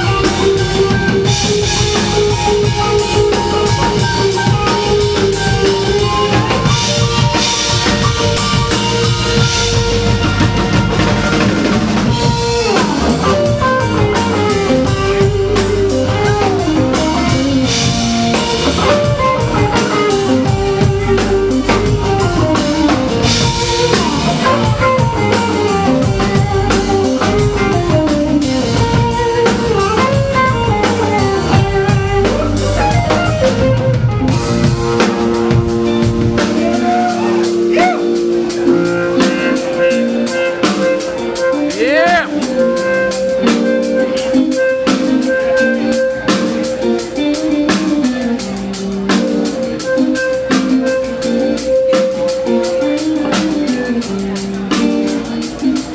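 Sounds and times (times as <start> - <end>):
drum kit beat: 0.0 - 55.9
electric guitars: 0.0 - 55.9
keyboard: 0.0 - 55.9.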